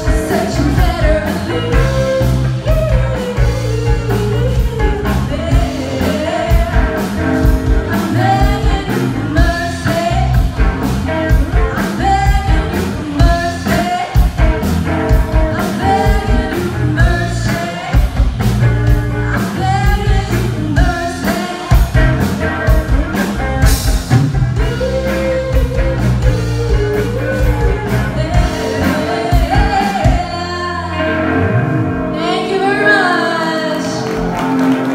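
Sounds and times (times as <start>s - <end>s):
woman singing into a microphone: 0.0s - 14.5s, 15.1s - 24.0s, 24.6s - 31.2s, 32.1s - 34.2s
drums beating: 0.0s - 30.4s
electric guitar: 0.0s - 34.9s.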